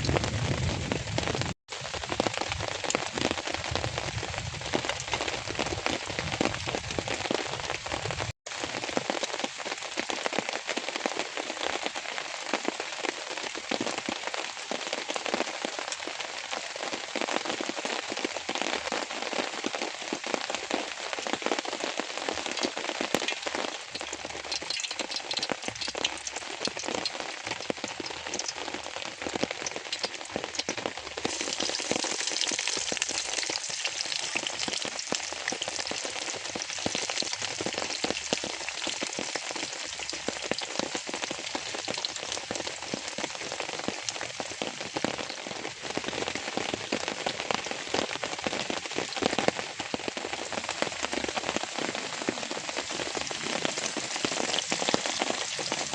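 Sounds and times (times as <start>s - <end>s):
rain falling on a surface: 0.0s - 55.9s.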